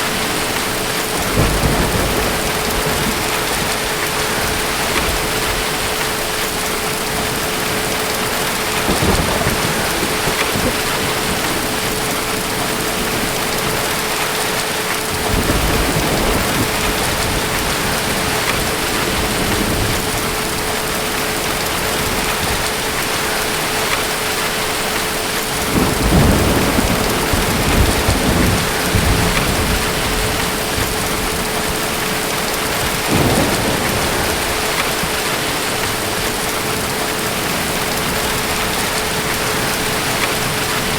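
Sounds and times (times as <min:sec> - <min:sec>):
distant thunder rumbles: 0:00.0 - 0:40.9
heavy rain: 0:00.0 - 0:40.9.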